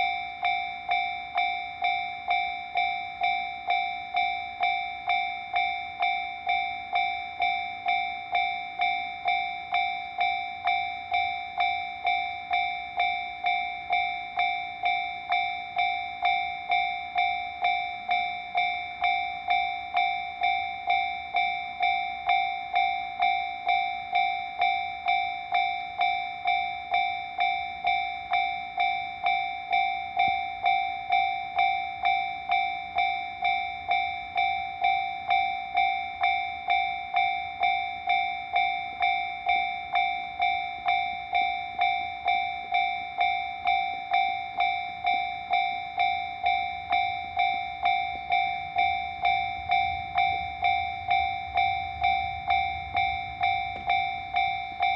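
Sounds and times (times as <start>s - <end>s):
level crossing warning bell: 0.0s - 54.9s.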